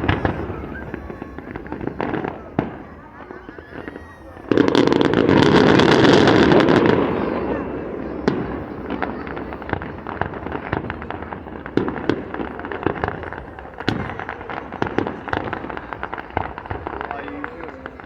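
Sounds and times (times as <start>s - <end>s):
fireworks crackling and popping: 0.0s - 18.0s
loud firework bangs: 0.0s - 18.0s.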